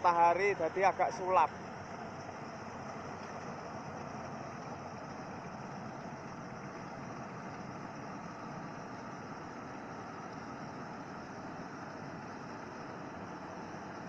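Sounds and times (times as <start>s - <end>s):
combine harvester engine running: 0.0s - 14.0s.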